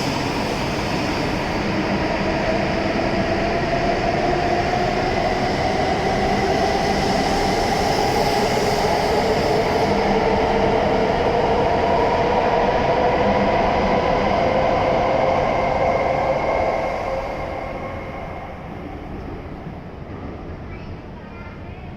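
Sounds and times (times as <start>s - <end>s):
rising train whine: 0.0s - 21.9s
train wheels rumbling on rail: 0.0s - 21.9s.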